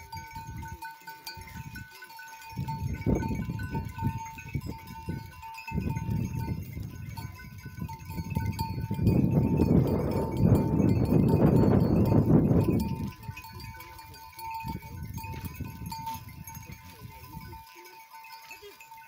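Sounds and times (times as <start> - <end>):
herd rustling and shuffling: 0.0 - 19.0.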